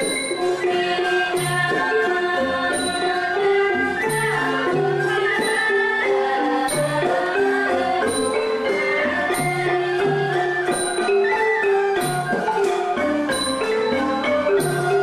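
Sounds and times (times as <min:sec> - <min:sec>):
folk dance music: 0:00.0 - 0:15.0
light high percussion strikes: 0:00.0 - 0:15.0.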